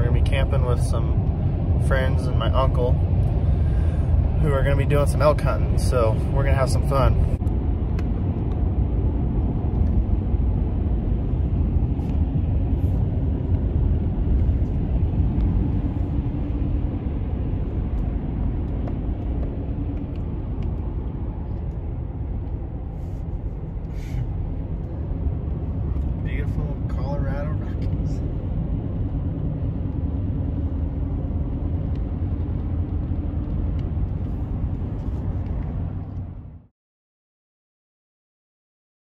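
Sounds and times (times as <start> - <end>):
tyre and engine rumble in truck cab: 0.0 - 36.7.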